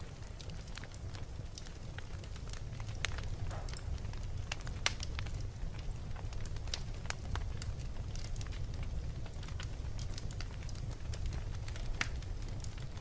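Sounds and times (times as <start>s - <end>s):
fire crackling and popping: 0.0s - 13.0s
flames rumbling: 0.0s - 13.0s.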